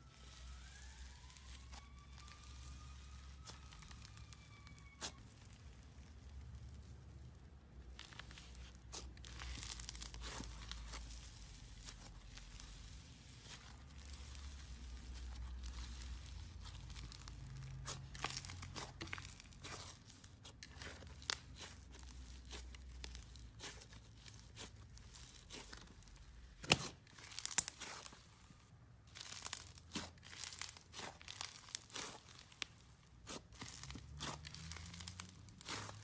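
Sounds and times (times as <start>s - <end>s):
slime squished by hand: 0.0s - 36.0s.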